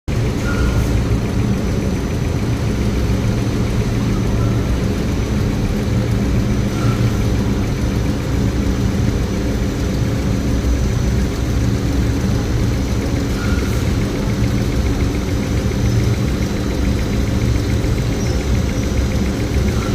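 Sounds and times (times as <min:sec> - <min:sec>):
machinery humming: 0:00.1 - 0:19.9.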